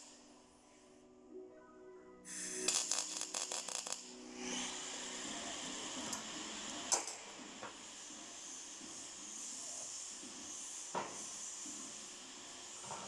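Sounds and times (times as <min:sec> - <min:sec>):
steady hiss: 0:00.0 - 0:01.0, 0:02.3 - 0:13.0
welding arc crackling: 0:02.3 - 0:12.8.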